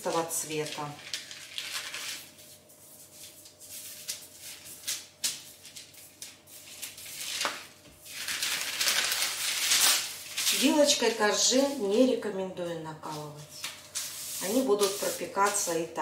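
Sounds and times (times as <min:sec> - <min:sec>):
baking paper crinkling: 0:00.0 - 0:16.0.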